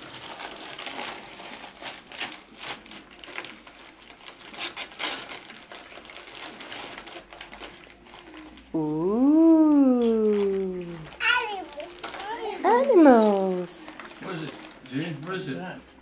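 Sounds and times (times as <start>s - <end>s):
tissue paper and gift bag rustling: 0.0s - 15.8s.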